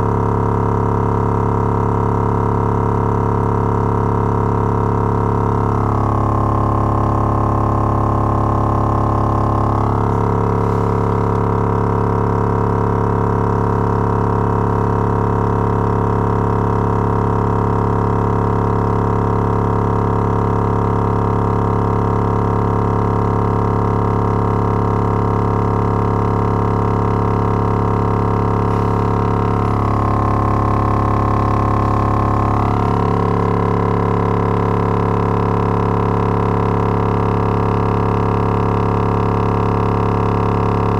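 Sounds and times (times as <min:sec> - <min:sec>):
subwoofer droning test tone: 0:00.0 - 0:40.9.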